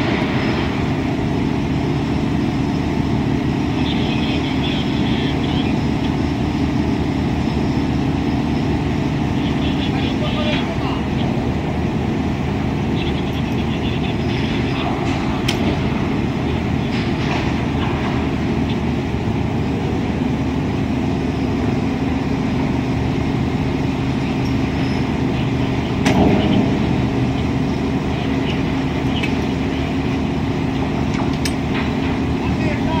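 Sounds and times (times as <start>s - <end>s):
heavy machinery droning: 0.0s - 33.0s.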